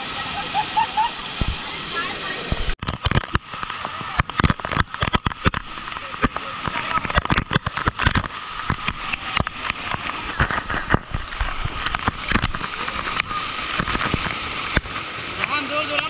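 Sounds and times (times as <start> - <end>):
rushing water: 0.0 - 16.0
sharp clicks and knocks: 2.5 - 16.0.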